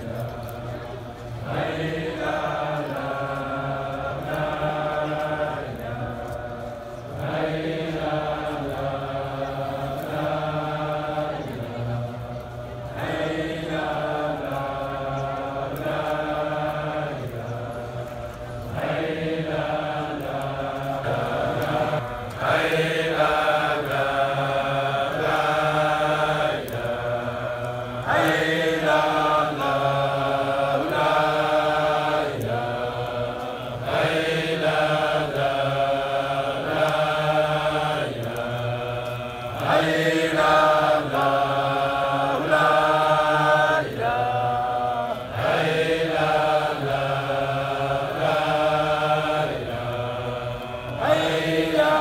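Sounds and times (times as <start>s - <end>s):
congregation chanting in unison: 0.0s - 52.0s.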